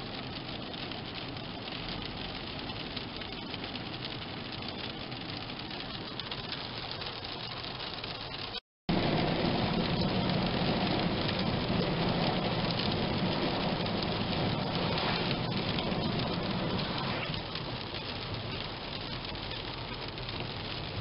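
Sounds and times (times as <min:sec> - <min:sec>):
car road noise: 0:00.0 - 0:21.0
rain hitting a car: 0:00.0 - 0:21.0.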